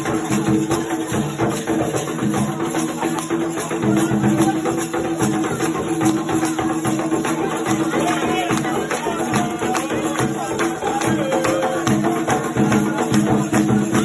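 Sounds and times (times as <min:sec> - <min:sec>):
fast drumming and hand percussion: 0:00.0 - 0:14.0.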